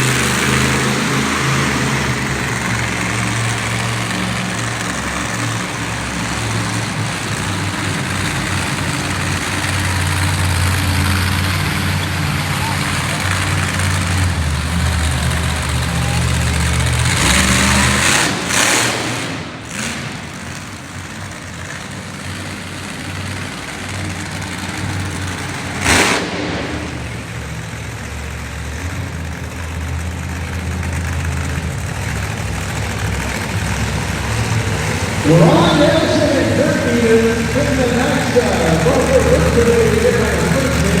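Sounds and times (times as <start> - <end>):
monster truck engine running hard: 0.0 - 41.0.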